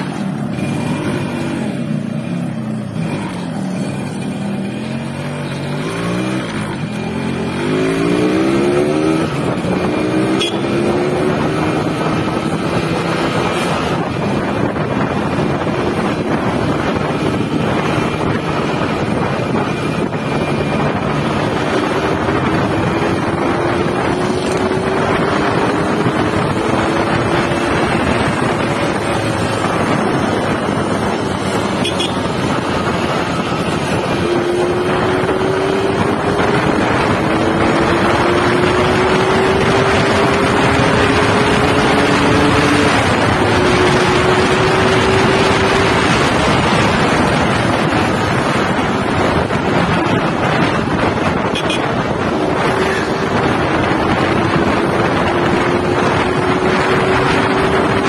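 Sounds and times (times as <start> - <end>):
motorcycle engine revving: 0.0 - 58.0
wind on microphone: 0.0 - 58.0.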